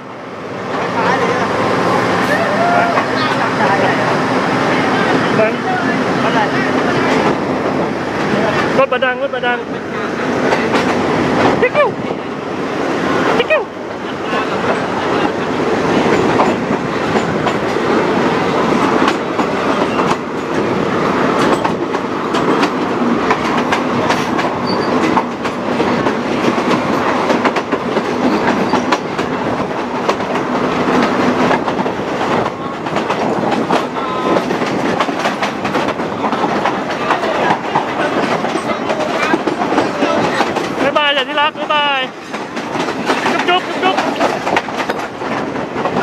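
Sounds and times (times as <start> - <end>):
train wheels rumbling on rails: 0.0 - 46.0
wheels clacking over rail joints: 4.6 - 46.0.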